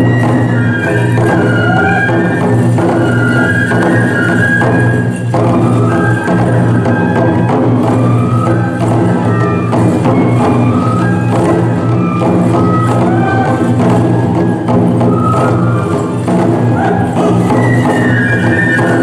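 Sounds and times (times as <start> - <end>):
bamboo flutes melody: 0.0 - 19.0
taiko drums beating: 0.0 - 19.0.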